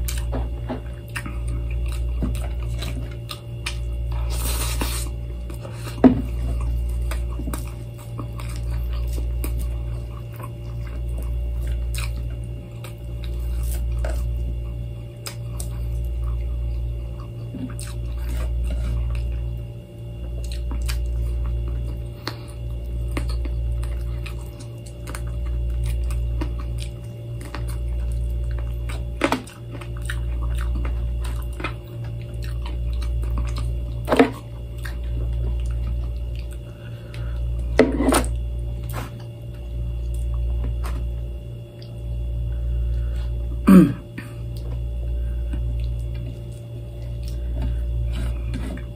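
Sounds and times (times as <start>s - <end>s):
faint chewing: 0.0s - 48.9s
low hum: 0.0s - 48.9s.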